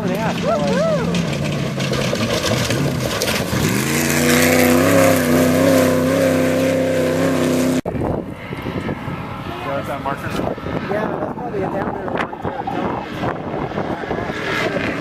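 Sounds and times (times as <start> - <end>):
race vehicle engine running hard: 0.0 - 15.0.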